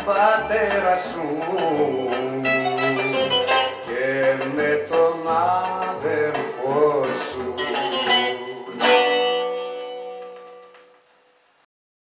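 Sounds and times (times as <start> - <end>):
plucked-string music from vinyl record: 0.0 - 11.4.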